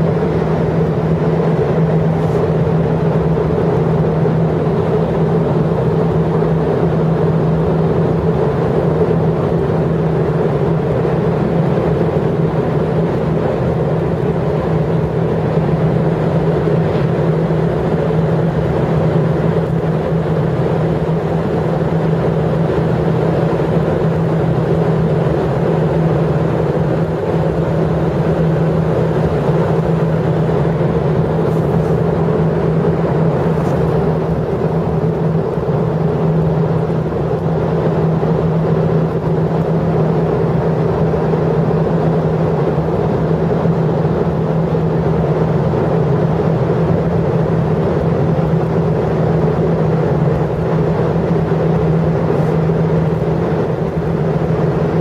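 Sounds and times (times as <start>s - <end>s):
mechanical drone with low hum: 0.0s - 55.0s.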